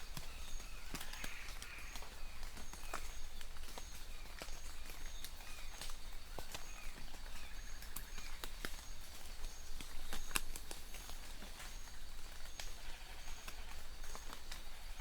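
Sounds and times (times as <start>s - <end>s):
rain falling and dripping: 0.0s - 15.0s.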